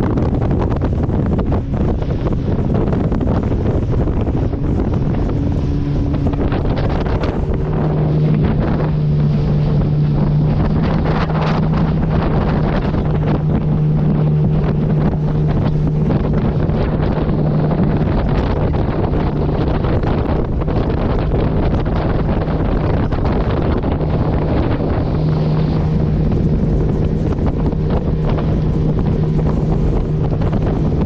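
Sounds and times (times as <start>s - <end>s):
motorboat engine running: 0.0s - 31.0s
wind buffeting microphone: 0.0s - 31.0s.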